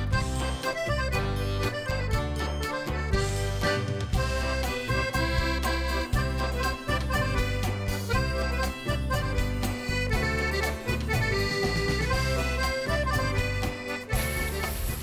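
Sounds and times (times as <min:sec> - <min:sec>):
accordion music: 0:00.0 - 0:15.0
bass line: 0:00.0 - 0:15.0.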